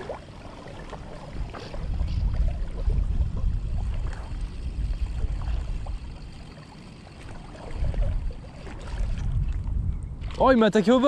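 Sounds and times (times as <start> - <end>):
water lapping and sloshing: 0.0 - 11.0
wind rumbling on microphone: 0.0 - 11.0.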